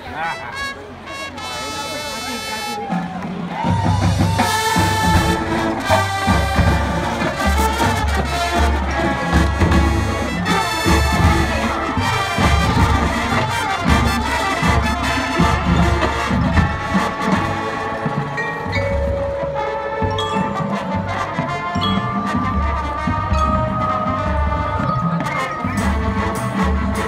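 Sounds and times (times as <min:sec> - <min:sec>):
marching band playing: 0:00.0 - 0:27.0
long held brass notes: 0:04.3 - 0:18.6, 0:19.3 - 0:27.0.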